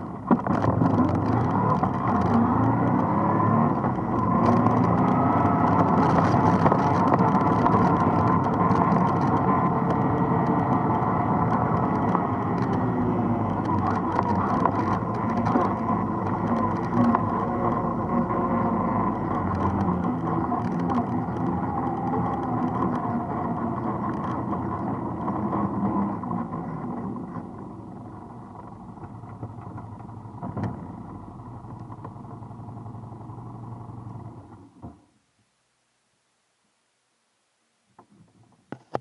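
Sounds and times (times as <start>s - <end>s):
atv engine running: 0.0s - 34.8s.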